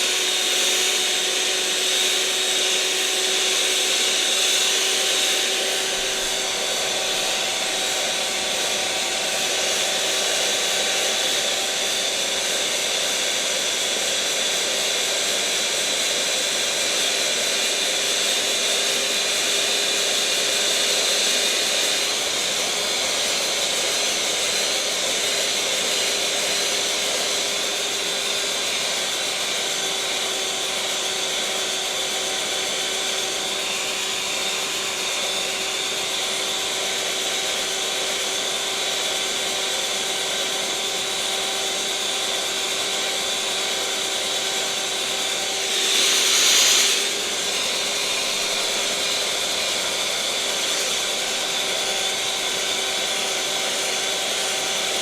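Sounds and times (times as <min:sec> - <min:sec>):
electric mixer motor whirring: 0:00.0 - 0:55.0.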